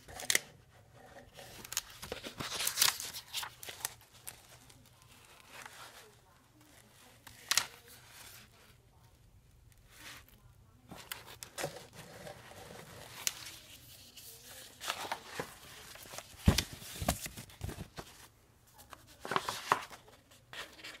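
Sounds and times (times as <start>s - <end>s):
paper rustling: 0.0s - 8.7s, 9.8s - 21.0s.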